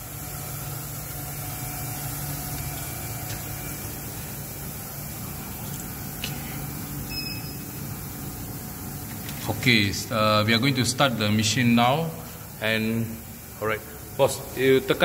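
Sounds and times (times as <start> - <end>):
electrical cabinet hum and hiss: 0.0 - 15.0.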